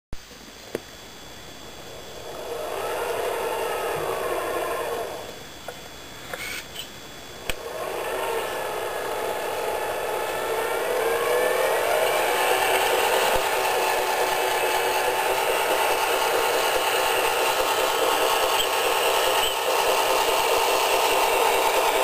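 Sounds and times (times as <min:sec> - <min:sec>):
toy truck electric motor whine: 0:01.8 - 0:05.4, 0:06.3 - 0:06.9, 0:07.5 - 0:22.0.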